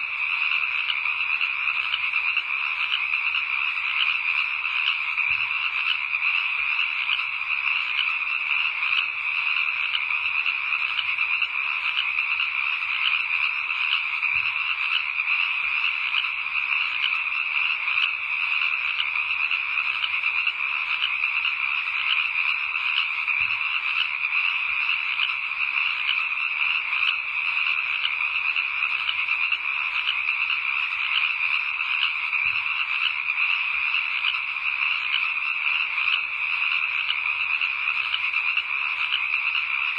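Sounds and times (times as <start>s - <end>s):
night animal chorus pulsing: 0.0s - 39.9s.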